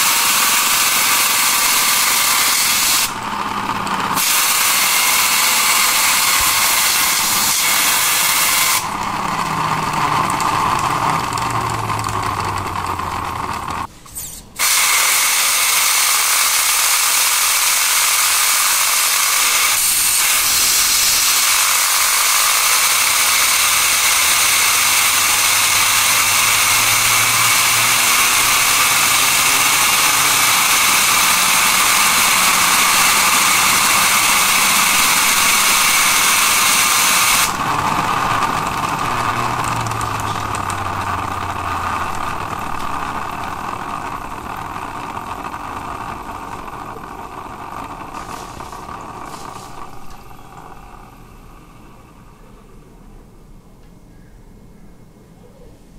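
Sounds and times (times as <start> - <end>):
compressed air hissing: 0.0 - 13.1, 13.7 - 52.7
scroll wheel ratcheting buzz: 0.0 - 51.6.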